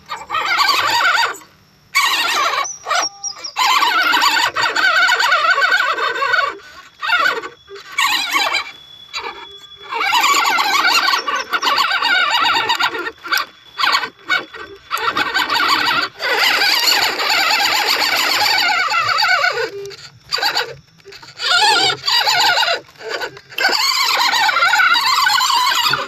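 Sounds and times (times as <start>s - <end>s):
electric motor and gears whining: 0.0s - 26.0s.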